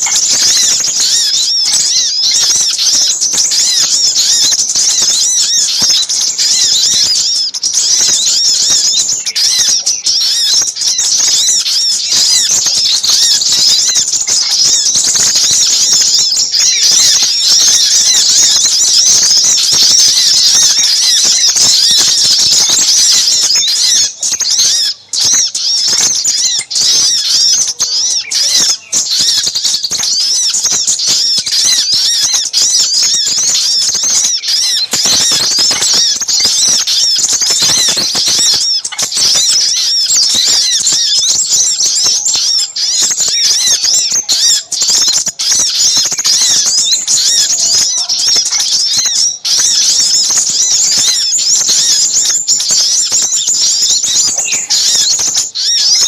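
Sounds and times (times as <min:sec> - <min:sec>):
sunbirds chattering: 0:00.0 - 0:56.0.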